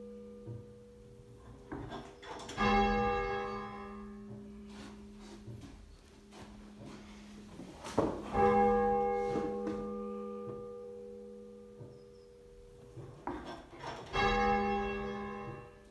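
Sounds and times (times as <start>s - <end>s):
church bell tolling: 0.0s - 15.9s.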